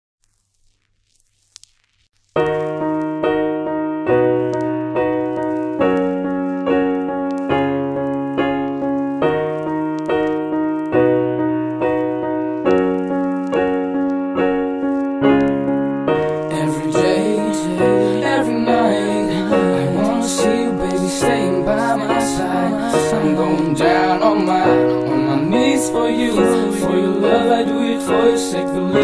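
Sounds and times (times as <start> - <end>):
piano-like chords: 2.4 - 29.0.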